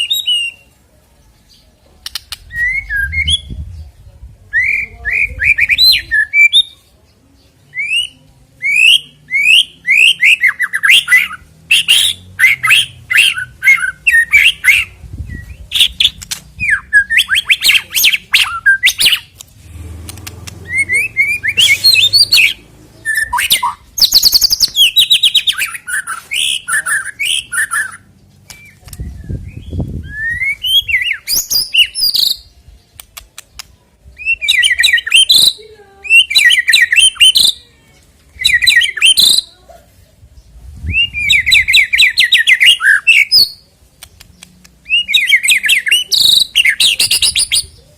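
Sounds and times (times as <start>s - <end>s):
songbird singing whistles and trills: 0.0s - 0.8s, 1.4s - 19.4s, 20.7s - 37.6s, 38.3s - 39.5s, 40.4s - 47.9s.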